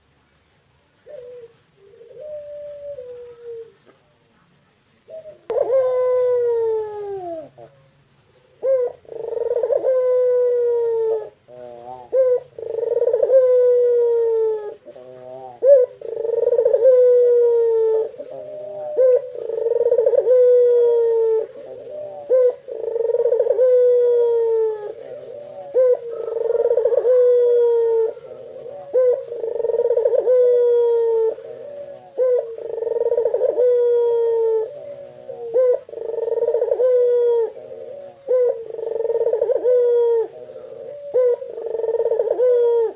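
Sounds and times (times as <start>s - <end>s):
dove cooing: 0.0s - 4.2s, 5.0s - 42.9s.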